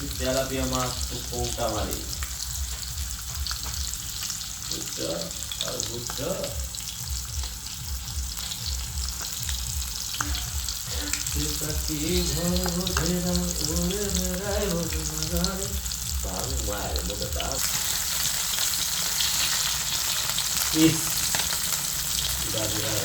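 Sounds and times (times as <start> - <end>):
fish frying in hot oil: 0.0 - 23.0.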